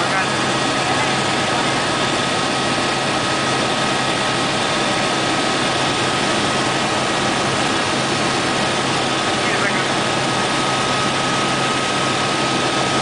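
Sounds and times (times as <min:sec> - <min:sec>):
helicopter cabin noise: 0:00.0 - 0:13.0
turbine high whine: 0:00.0 - 0:13.0.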